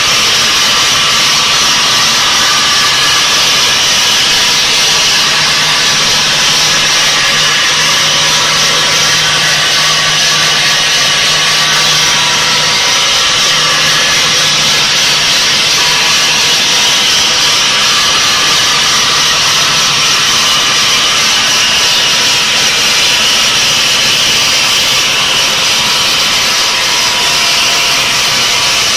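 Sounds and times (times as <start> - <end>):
saw blade grinding stone: 0.0 - 28.9.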